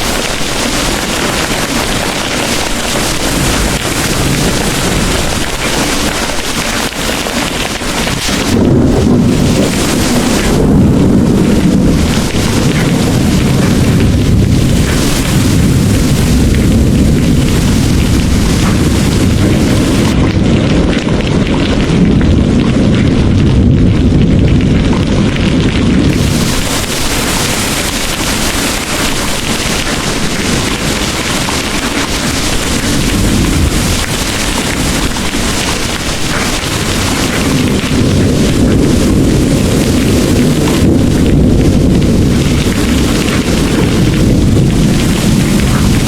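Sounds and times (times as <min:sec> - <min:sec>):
heavy rain: 0:00.0 - 0:46.0
thunder rumbling: 0:00.0 - 0:46.0.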